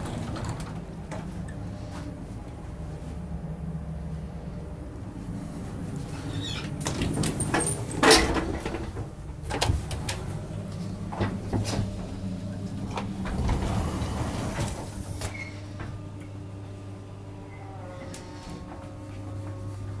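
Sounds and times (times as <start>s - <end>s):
low train hum: 0.0s - 20.0s.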